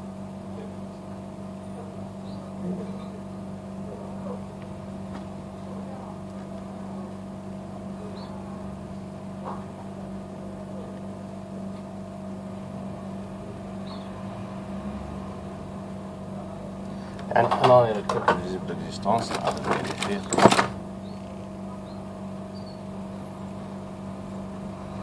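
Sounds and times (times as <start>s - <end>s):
electrical hum with fan drone: 0.0s - 25.0s.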